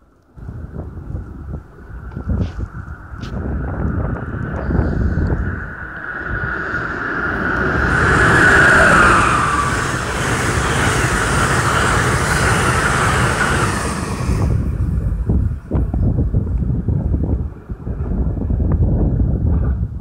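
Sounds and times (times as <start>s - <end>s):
electric train whine: 0.0s - 19.8s
wind buffeting microphone: 0.0s - 20.0s
train wheels rushing on rail: 0.4s - 19.9s.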